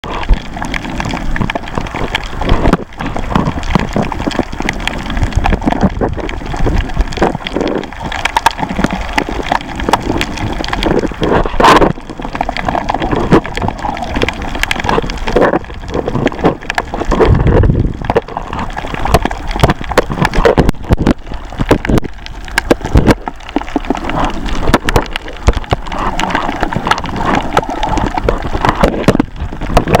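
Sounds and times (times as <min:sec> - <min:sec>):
underwater clicks and pops: 0:00.0 - 0:30.0.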